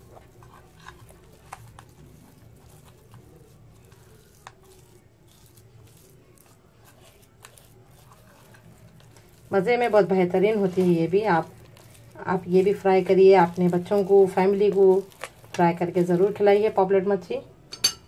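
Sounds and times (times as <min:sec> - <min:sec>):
hand squishing wet paste: 0:00.0 - 0:16.9.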